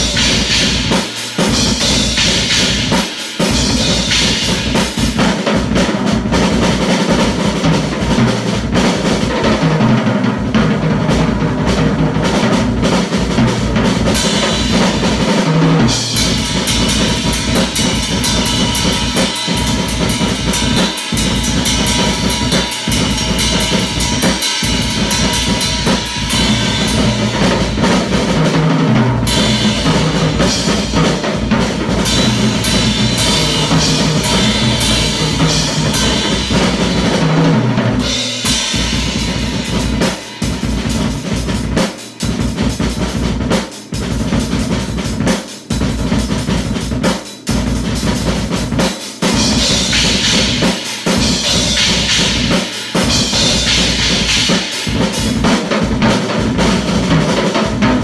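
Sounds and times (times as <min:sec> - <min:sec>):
cymbals: 0:00.0 - 0:09.8, 0:11.2 - 0:58.0
snare drum: 0:00.0 - 0:58.0.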